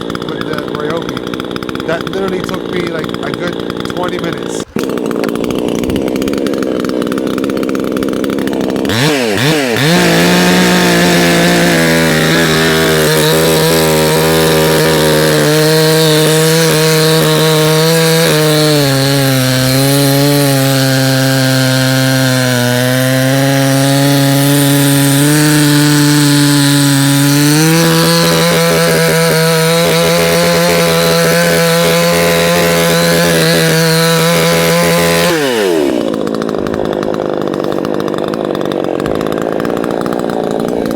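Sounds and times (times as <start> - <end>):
chainsaw cutting wood: 0.0 - 40.9
chainsaw revving: 0.0 - 40.9.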